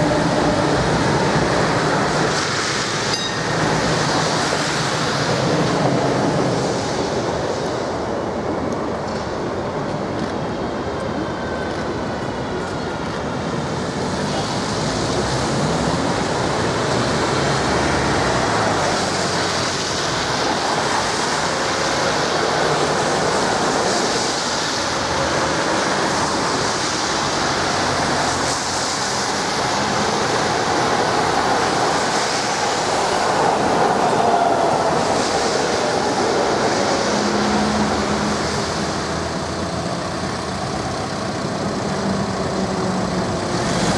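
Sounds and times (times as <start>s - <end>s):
trams rolling on rails: 0.0s - 43.9s
tyres hissing on wet road: 0.0s - 43.9s.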